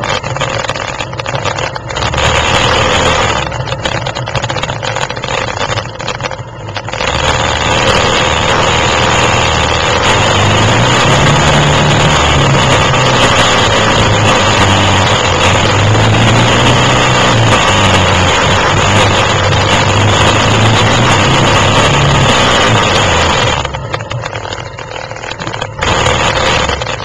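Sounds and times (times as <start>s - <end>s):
quad engine running: 0.0s - 27.0s.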